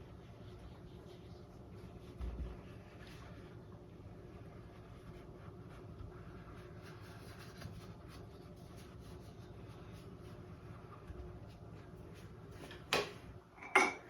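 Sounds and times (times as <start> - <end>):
mop brush scratching canvas: 0.0 - 12.7
low room hum: 0.0 - 14.0.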